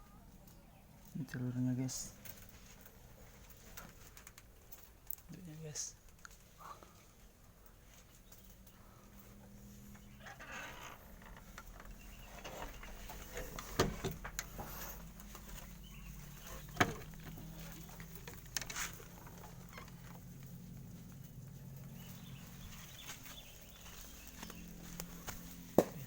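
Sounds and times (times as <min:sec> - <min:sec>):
soft rustling: 0:02.0 - 0:25.8.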